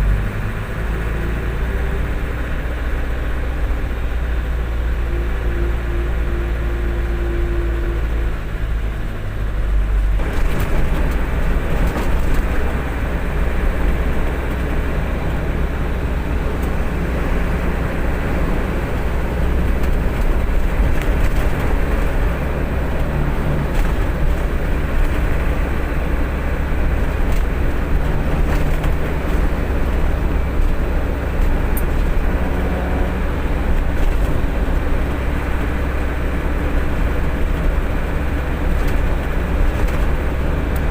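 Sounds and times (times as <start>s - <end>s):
road and wind noise: 0.0s - 40.9s
truck engine drone: 0.0s - 40.9s.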